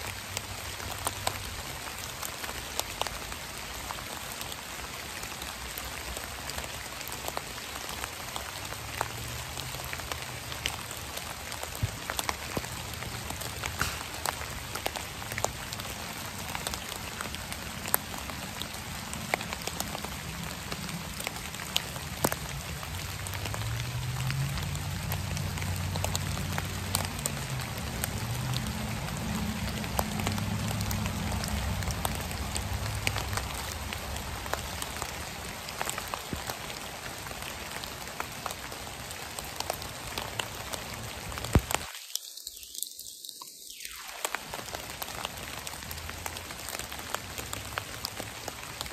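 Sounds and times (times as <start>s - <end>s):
rain dripping onto wet leaves: 0.0s - 48.9s.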